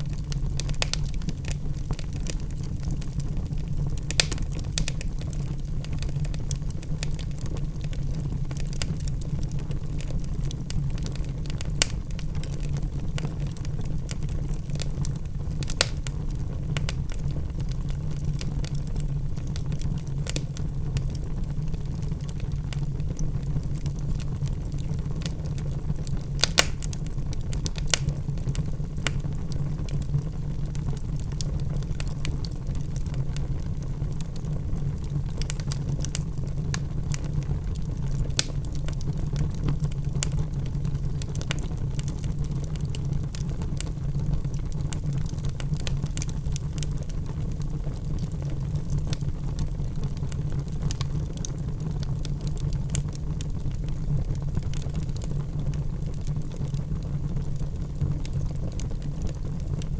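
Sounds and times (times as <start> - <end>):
logs burning in a fireplace: 0.0 - 59.9.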